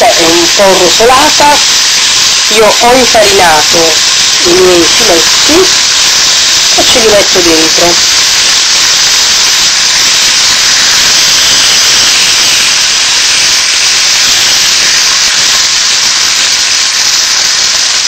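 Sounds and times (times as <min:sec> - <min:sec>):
beef sizzling in hot oil: 0:00.0 - 0:18.0.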